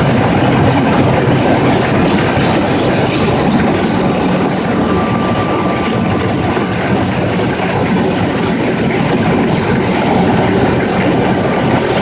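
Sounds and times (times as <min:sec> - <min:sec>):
printing press clattering: 0:00.0 - 0:12.0.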